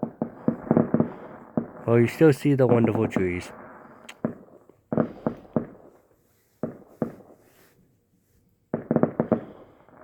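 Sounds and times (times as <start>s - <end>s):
distant fireworks bangs: 0.0s - 7.4s, 8.7s - 10.0s.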